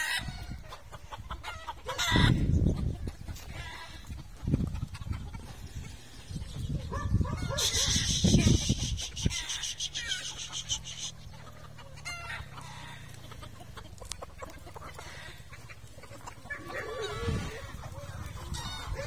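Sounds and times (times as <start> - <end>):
chickens clucking and calling: 0.0 - 19.0.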